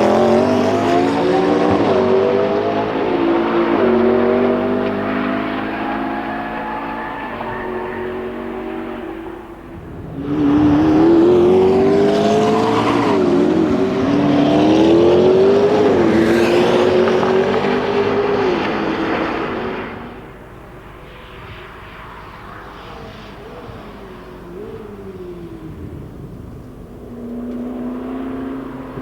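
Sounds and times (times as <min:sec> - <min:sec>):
sports car accelerating hard: 0:00.0 - 0:29.0.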